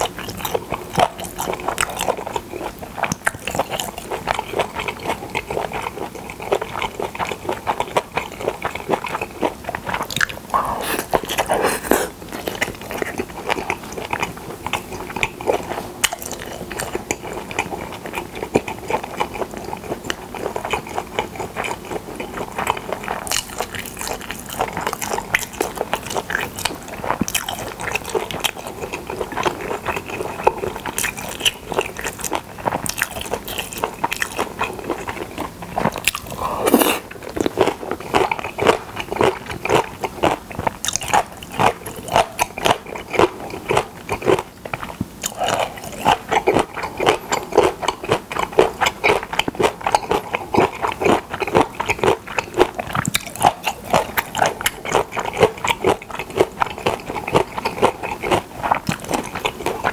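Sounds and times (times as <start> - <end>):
chewing with wet mouth clicks: 0.0 - 59.9.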